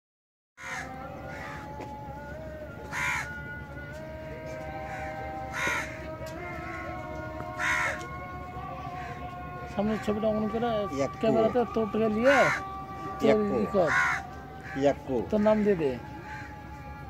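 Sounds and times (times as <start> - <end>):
crows cawing: 0.6 - 1.8, 2.9 - 3.4, 4.7 - 16.9
steady background hum: 0.8 - 17.0.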